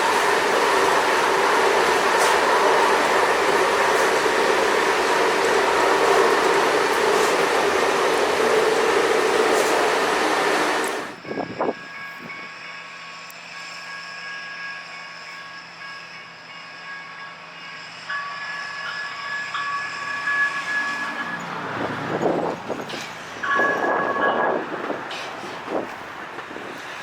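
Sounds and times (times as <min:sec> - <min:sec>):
light rail train passing: 0:00.0 - 0:27.0.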